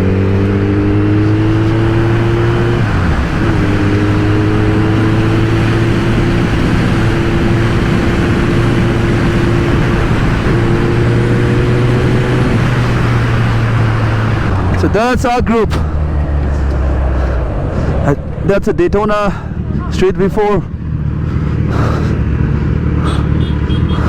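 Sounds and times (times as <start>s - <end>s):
motorcycle engine accelerating: 0.0s - 24.0s
wind rush: 0.1s - 22.0s.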